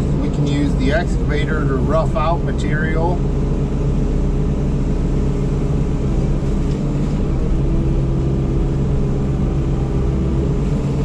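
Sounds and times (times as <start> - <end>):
excavator mulcher drone: 0.0 - 11.0.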